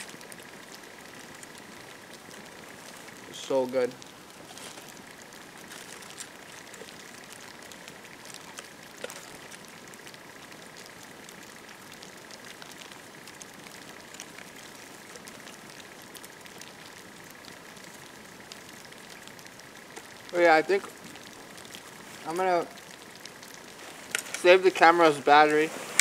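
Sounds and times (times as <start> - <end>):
campfire hissing: 0.0 - 26.0
fire crackles and pops: 0.0 - 26.0.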